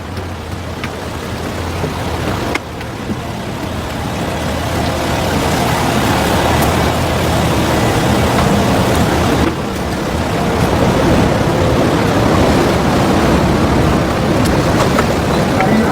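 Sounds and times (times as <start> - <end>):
steady rushing noise: 0.0 - 15.9.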